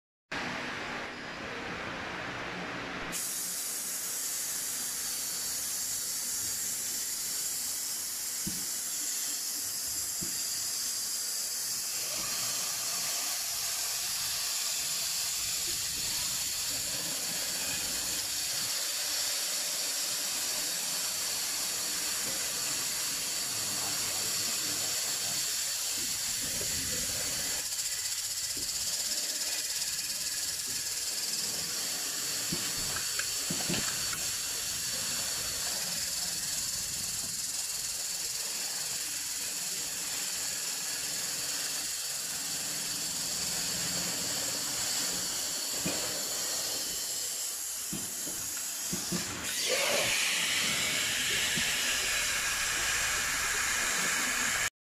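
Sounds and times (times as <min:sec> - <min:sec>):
sanding belt grinding metal pot: 0:04.5 - 0:54.7.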